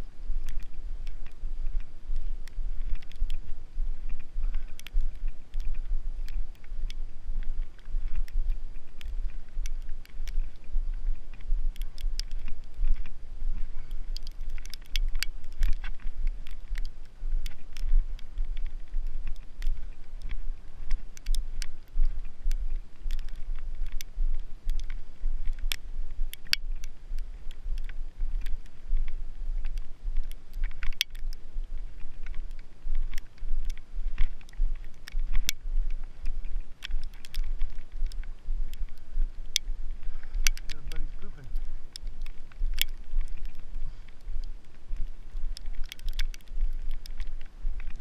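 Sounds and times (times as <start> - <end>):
constant low rumble: 0.0 - 48.0.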